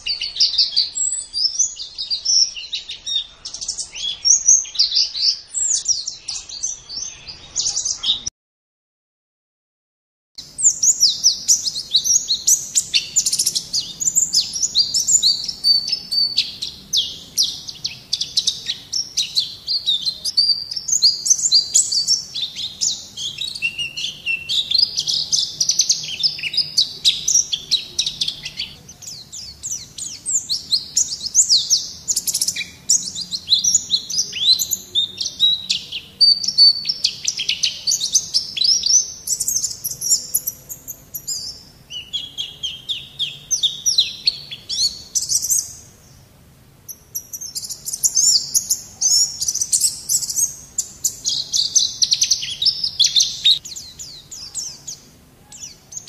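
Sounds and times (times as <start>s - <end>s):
bird twittering chirps and trills: 0.0s - 8.3s, 10.4s - 56.0s.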